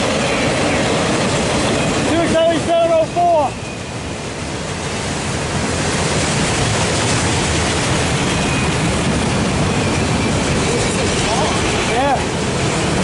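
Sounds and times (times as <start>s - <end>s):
steel wheels rumbling on rails: 0.0s - 13.0s.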